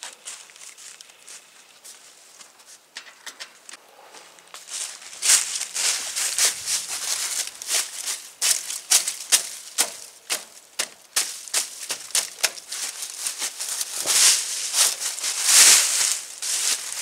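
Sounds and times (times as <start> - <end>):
dry leaves crunching underfoot: 0.0 - 2.2, 4.4 - 17.0.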